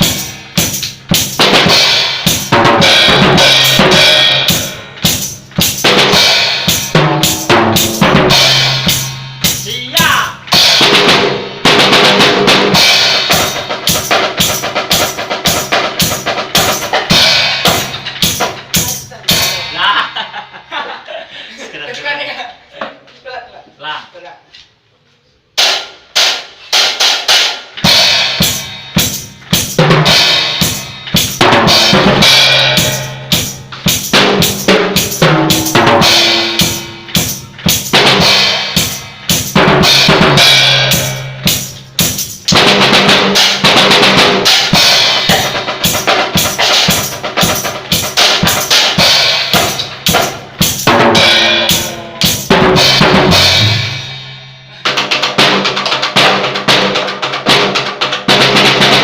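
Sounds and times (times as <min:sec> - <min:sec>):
drum kit playing: 0:00.0 - 0:21.0, 0:25.6 - 0:59.0.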